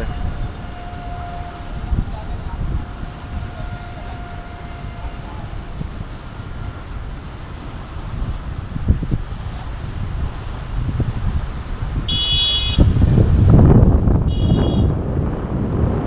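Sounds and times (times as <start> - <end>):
choppy river water: 0.0 - 16.0
wind buffeting microphone: 0.0 - 16.0.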